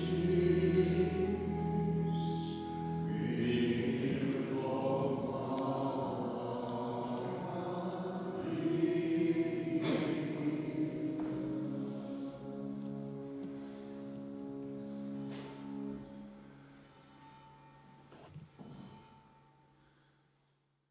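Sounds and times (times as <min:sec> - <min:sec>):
choir holding sustained notes: 0:00.0 - 0:18.2.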